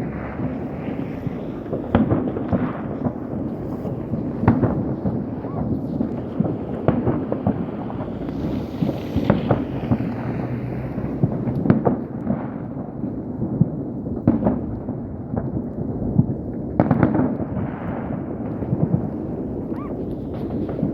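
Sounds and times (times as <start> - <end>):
loud firework bangs: 0.0 - 20.9
rumble of distant fireworks: 0.0 - 20.9.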